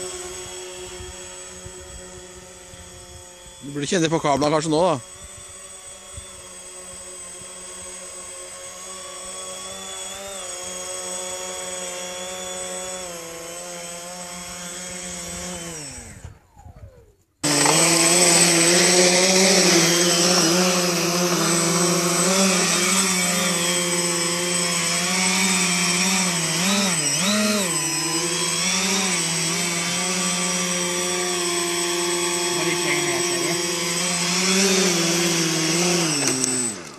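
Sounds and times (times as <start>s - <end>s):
electric motors and propellers whining: 0.0s - 36.9s.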